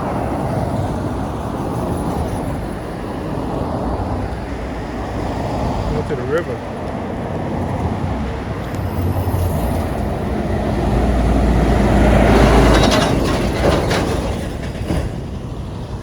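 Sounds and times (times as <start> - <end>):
heavy vehicle passing with rattling: 0.0 - 16.0.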